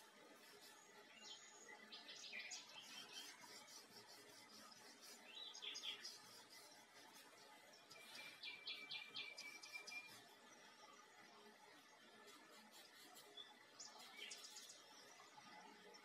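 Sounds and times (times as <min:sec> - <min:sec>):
birds chirping: 0:00.1 - 0:11.0, 0:12.8 - 0:16.0.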